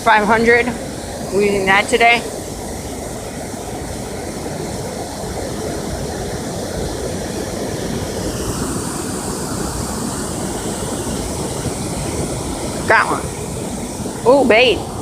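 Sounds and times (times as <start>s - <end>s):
water rushing through dam: 0.0s - 15.0s.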